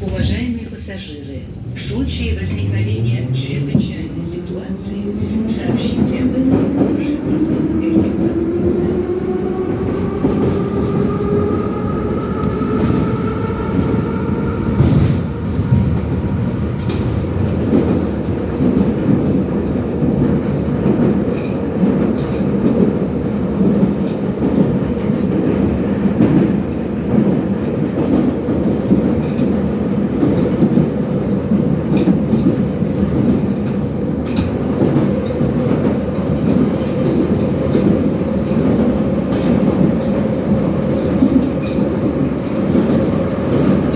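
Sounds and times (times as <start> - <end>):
rail clicks: 0.0 - 43.9
wheels rumbling on rail: 0.0 - 43.9.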